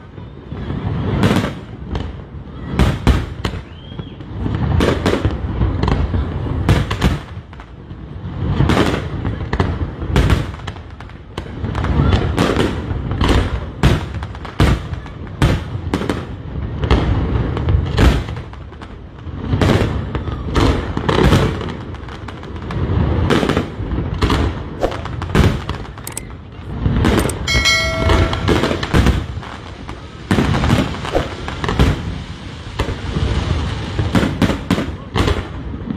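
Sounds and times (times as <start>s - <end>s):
fireworks bangs and booms: 0.0s - 35.9s.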